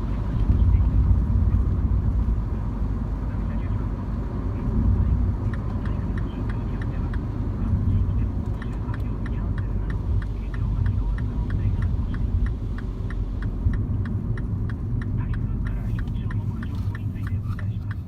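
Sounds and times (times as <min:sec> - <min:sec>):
road and engine rumble: 0:00.0 - 0:18.0
turn signal ticking: 0:00.0 - 0:18.0.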